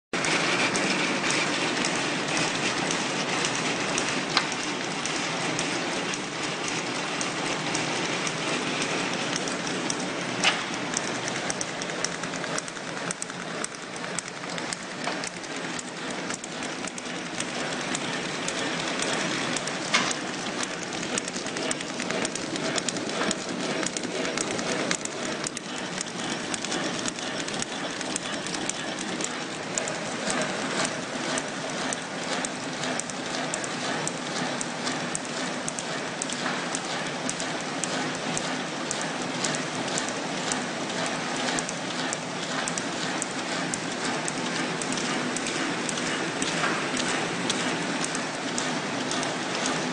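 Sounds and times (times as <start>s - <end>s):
packaging machine clattering: 0.2s - 49.9s.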